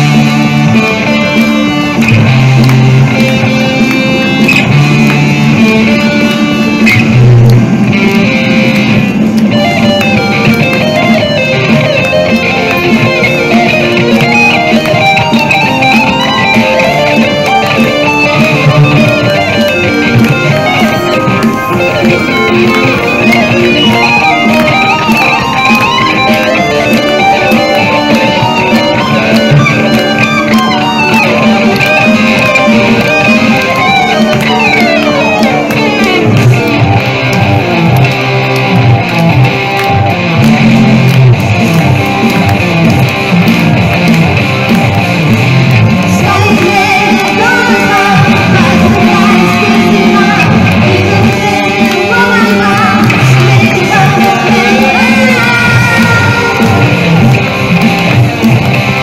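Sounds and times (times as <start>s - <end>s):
electric guitar rock lead: 0.0s - 59.0s.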